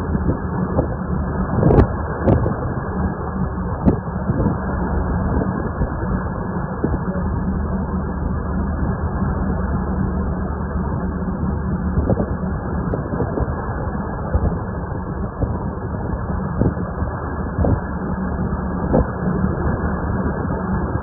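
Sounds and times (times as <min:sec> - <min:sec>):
muffled boat engine drone: 0:00.0 - 0:21.0.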